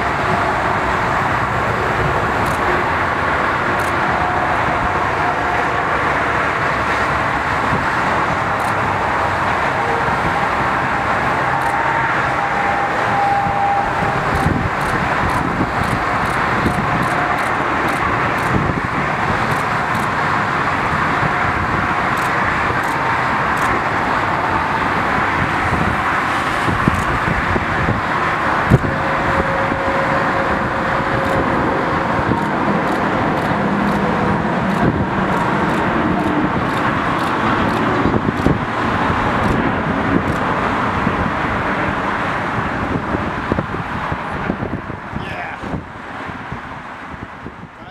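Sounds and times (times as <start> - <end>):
jet engines rumbling at takeoff: 0.0 - 47.9.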